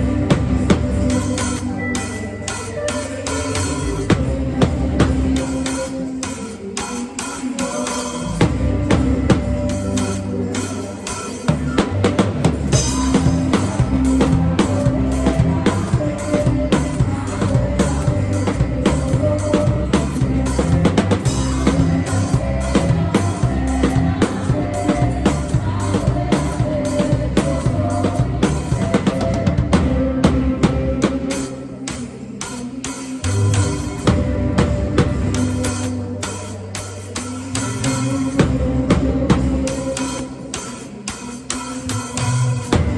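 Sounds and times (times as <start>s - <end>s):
drum kit playing a beat: 0.0s - 42.9s
worship song music: 0.0s - 42.9s.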